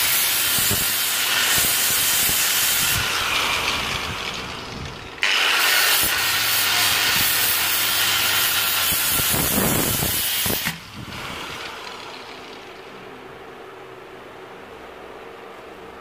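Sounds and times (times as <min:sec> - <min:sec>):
angle grinder removing rust: 0:00.0 - 0:13.0
grinder winding down: 0:00.0 - 0:13.1.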